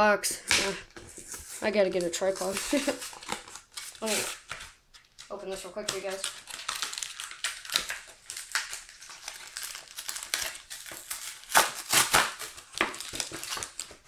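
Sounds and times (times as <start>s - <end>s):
plastic packaging crinkling: 1.0s - 14.0s.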